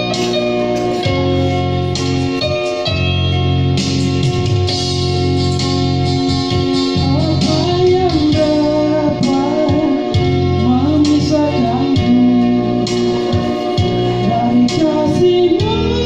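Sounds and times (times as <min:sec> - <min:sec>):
bending guitar melody: 0:00.0 - 0:16.0
guitar accompaniment: 0:00.0 - 0:16.0.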